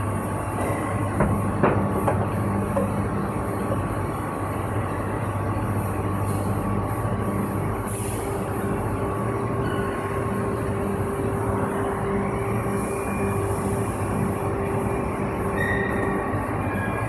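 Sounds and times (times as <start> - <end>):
machine hum and rumble: 0.0 - 17.0.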